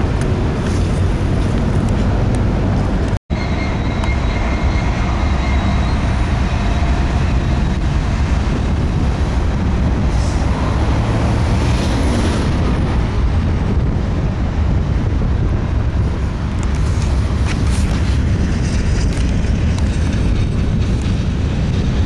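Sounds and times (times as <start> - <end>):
train rumbling by: 0.0 - 22.0.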